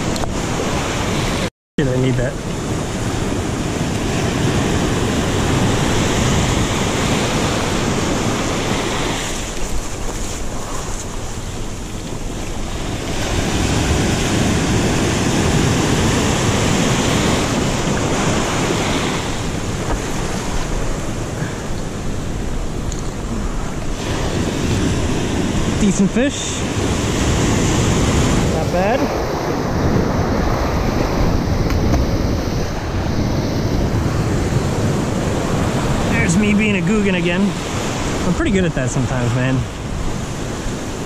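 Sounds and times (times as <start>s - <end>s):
surf breaking around rocks: 0.0s - 41.0s
wind buffeting microphone: 2.2s - 41.0s.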